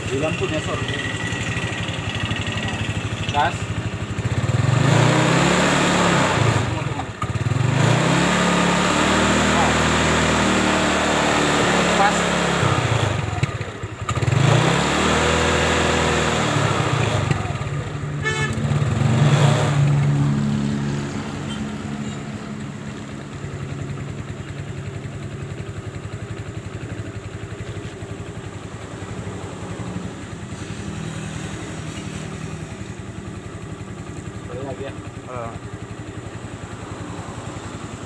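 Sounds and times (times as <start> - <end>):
motorcycle engine revving and idling: 0.0 - 38.0.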